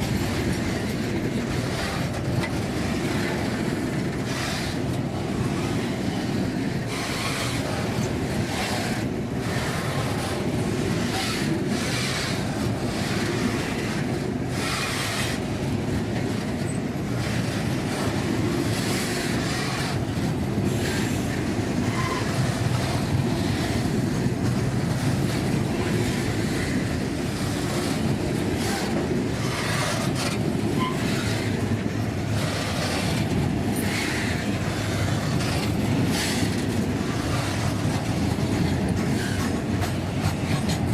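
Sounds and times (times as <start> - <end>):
freight train rumbling: 0.0 - 40.9
wheels clacking over rail joints: 0.0 - 40.9.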